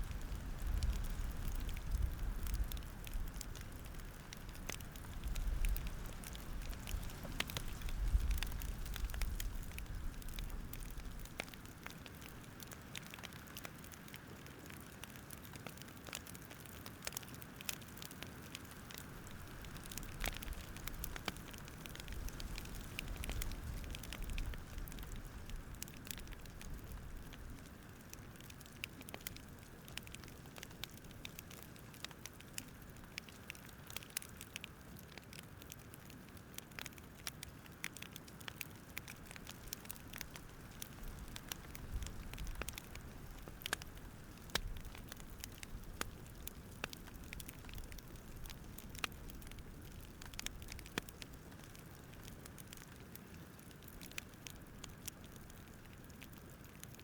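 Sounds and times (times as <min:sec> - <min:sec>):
fire pops: 0:00.0 - 0:35.1, 0:36.7 - 0:56.8
wood fire crackling: 0:00.0 - 0:57.0.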